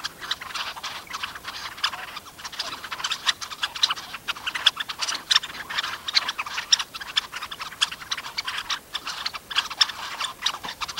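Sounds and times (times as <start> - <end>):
flock of birds calling: 0.0 - 10.9.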